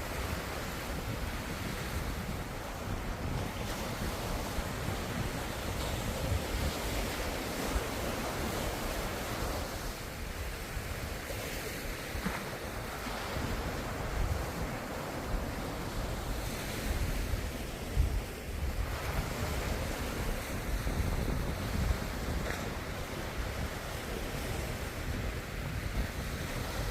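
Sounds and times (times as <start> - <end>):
ocean waves: 0.0 - 26.9
wind rumble on microphone: 0.0 - 26.9.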